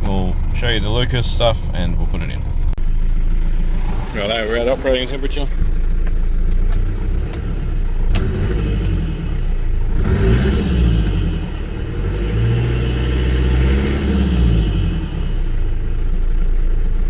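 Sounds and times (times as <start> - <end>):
diesel engine idling and revving: 0.0 - 17.0.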